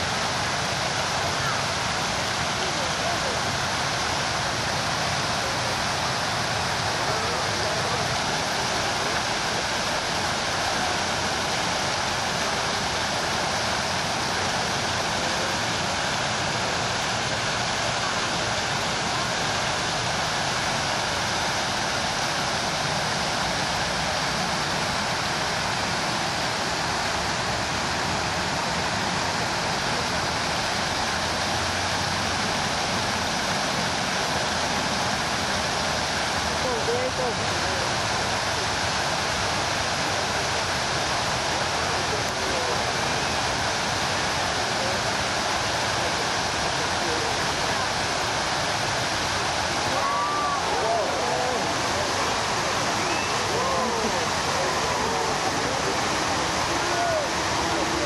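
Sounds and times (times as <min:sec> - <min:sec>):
fountain water rushing: 0:00.0 - 0:58.0.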